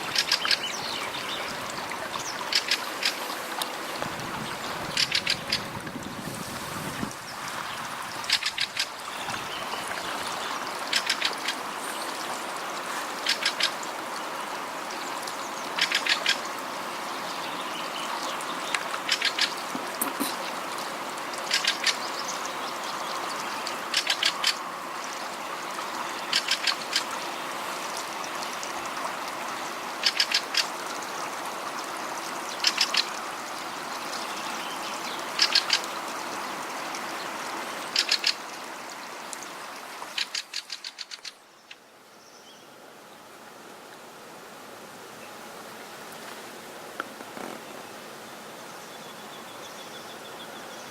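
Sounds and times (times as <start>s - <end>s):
rushing river water: 0.0s - 50.9s.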